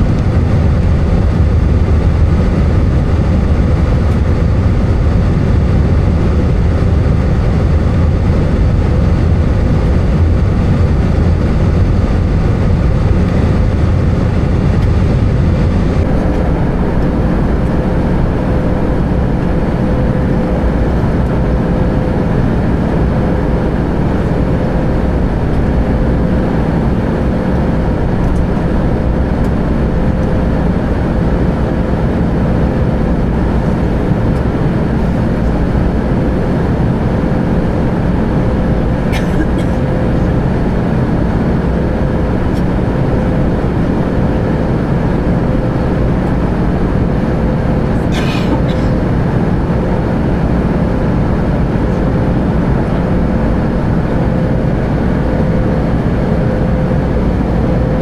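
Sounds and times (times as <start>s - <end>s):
jet cabin drone: 0.0s - 58.0s.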